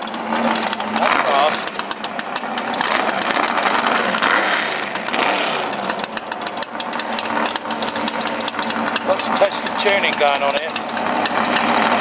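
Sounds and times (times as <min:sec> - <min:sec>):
race car engine revving and idling: 0:00.0 - 0:12.0.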